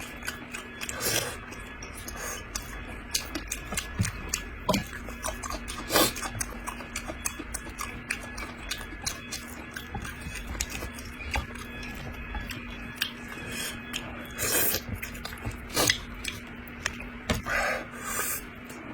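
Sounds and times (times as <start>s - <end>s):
smacking and chewing: 0.0s - 17.2s.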